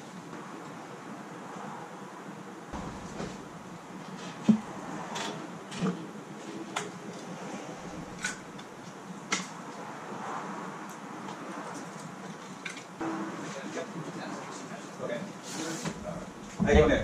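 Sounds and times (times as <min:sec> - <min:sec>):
steady faint hiss: 0:00.0 - 0:17.0.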